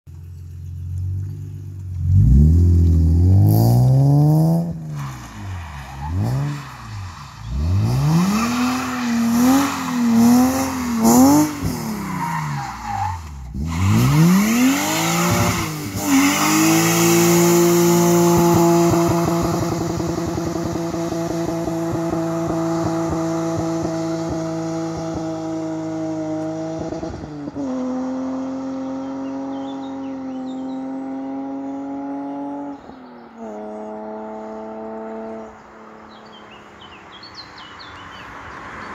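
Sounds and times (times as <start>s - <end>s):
car engine revving: 0.5s - 32.8s.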